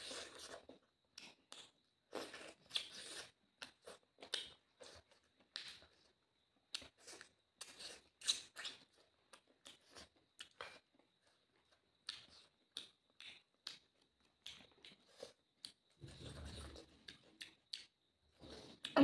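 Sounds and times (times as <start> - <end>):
wet chewing and lip smacks: 0.0 - 19.0.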